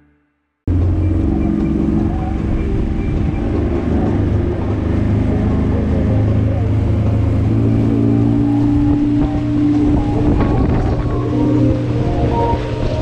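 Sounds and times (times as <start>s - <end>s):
outboard motor running: 0.7s - 13.0s
water rushing from wake: 0.7s - 13.0s.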